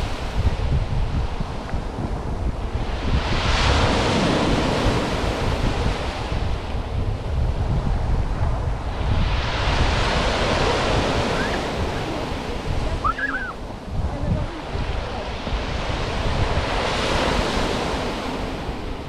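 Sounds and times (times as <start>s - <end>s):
waves washing onto sand: 0.0s - 19.0s
wind buffeting microphone: 0.0s - 19.0s.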